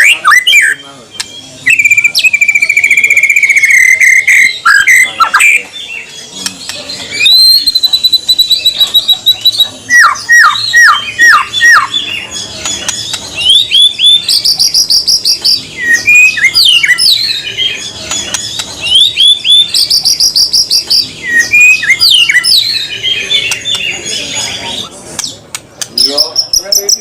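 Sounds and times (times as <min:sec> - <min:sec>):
songbird whistles and trills: 0:00.0 - 0:26.9.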